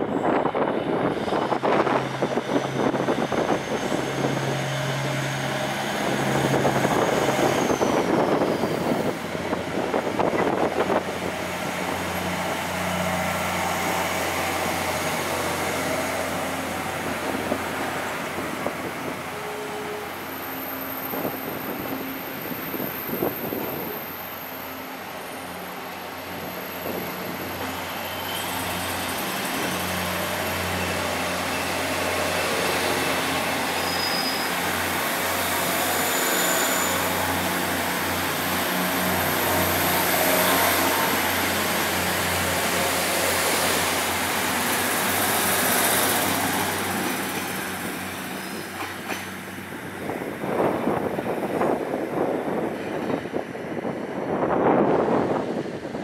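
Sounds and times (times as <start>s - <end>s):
train passing by: 0.0s - 56.0s.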